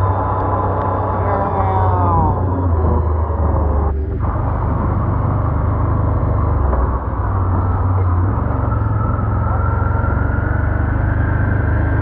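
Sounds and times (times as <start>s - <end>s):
atv engine droning: 0.0s - 12.0s
faint whine: 0.0s - 12.0s.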